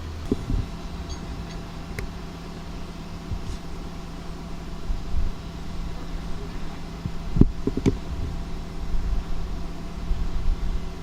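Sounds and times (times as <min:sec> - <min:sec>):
low machine hum: 0:00.0 - 0:11.0
low rumble: 0:00.0 - 0:11.0.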